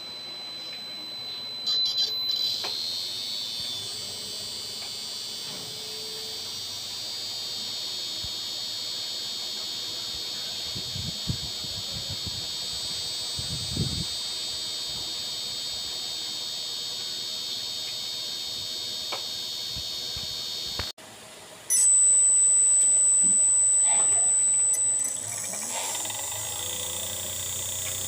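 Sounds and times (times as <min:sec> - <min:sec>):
electronic buzzer beeps: 0:00.0 - 0:20.9, 0:21.7 - 0:28.0
high-pitched electronic whine: 0:00.0 - 0:20.9, 0:21.6 - 0:28.0.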